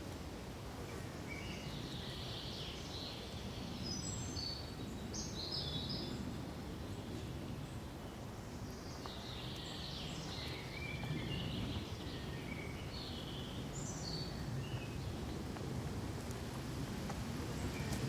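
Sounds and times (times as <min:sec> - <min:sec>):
low rush of background noise: 0:00.0 - 0:18.0.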